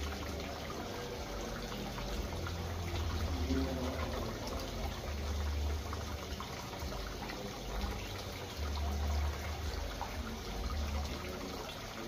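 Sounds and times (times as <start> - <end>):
rushing water-like noise: 0.0 - 12.0.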